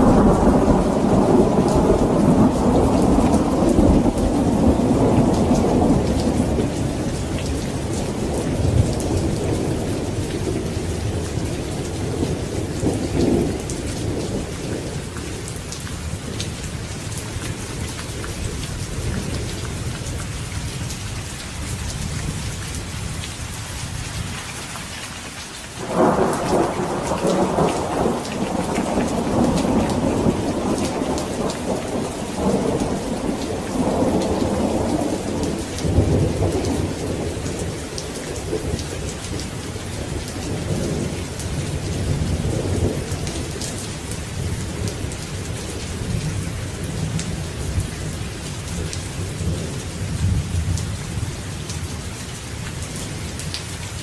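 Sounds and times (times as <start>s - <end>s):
thunder rumbling: 0.0s - 20.9s, 25.8s - 51.4s
rain hissing and pattering: 0.0s - 54.0s.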